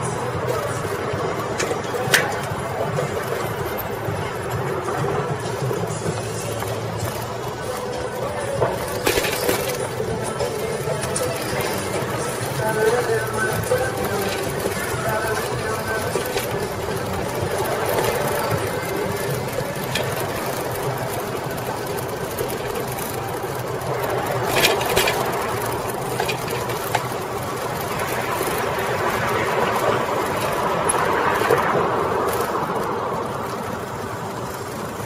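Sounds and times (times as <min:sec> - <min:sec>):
bicycle tyres and chain running: 0:00.0 - 0:35.0.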